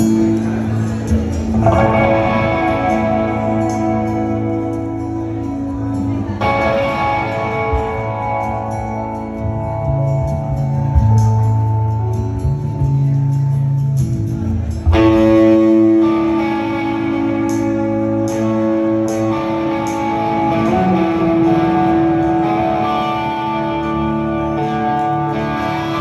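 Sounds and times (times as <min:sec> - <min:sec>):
live rock band: 0:00.0 - 0:26.0.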